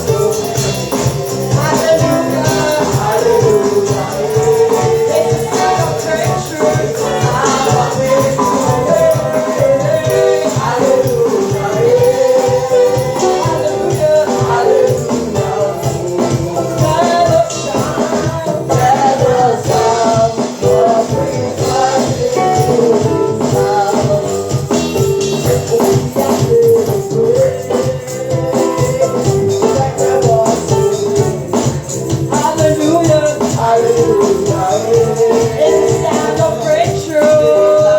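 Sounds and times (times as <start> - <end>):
people singing with band: 0.0 - 24.8, 25.4 - 37.9
rattling hand percussion: 0.0 - 37.9.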